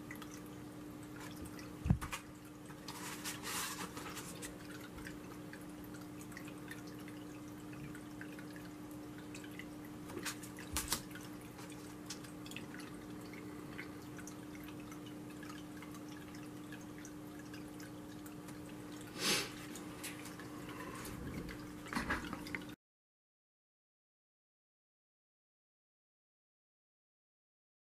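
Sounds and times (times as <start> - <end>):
fountain water trickling: 0.0 - 22.8
low steady hum: 0.0 - 22.8.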